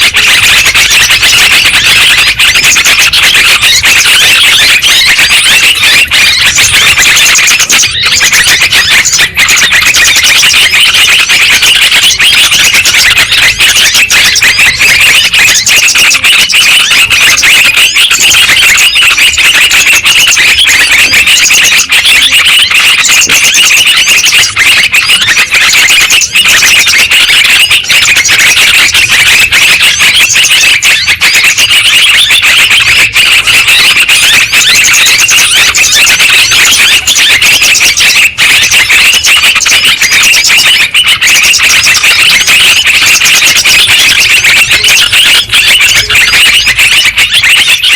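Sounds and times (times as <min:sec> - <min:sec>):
bulbuls chattering and warbling: 0:00.0 - 0:47.9.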